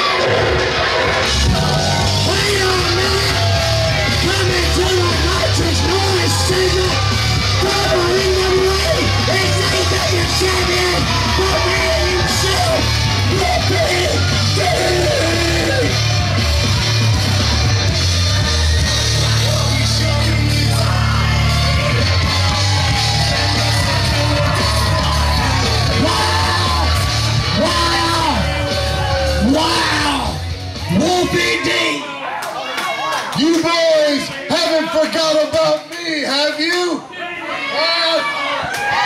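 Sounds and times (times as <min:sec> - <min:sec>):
loud music with heavy bass beat: 0:00.0 - 0:32.1
crowd yelling: 0:00.0 - 0:39.0.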